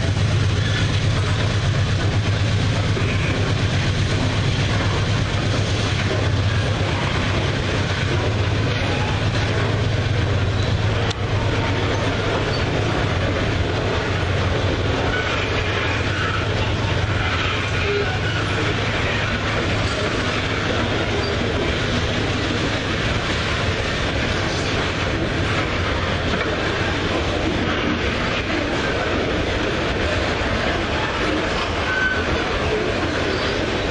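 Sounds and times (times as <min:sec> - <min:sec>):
train wagons rumbling on rails: 0:00.0 - 0:33.9.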